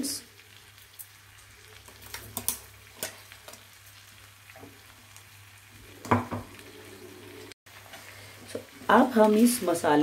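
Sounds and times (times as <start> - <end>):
faint sizzling in pan: 0.0 - 10.0.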